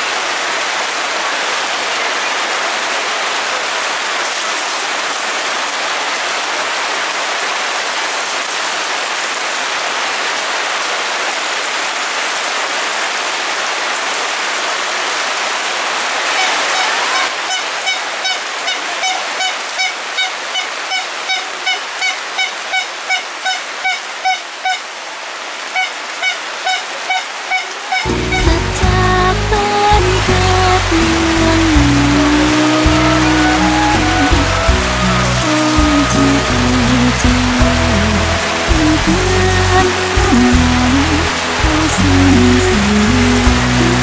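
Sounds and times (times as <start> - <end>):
heavy rain hissing: 0.0 - 44.0.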